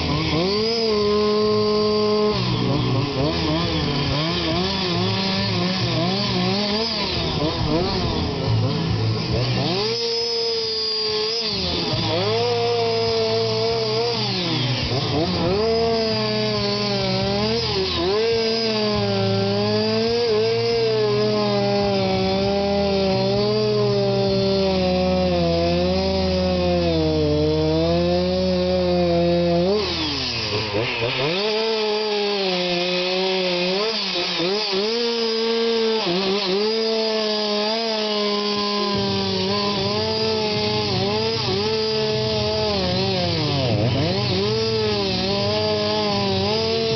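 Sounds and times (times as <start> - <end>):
chainsaw carving into wood: 0.0 - 46.9.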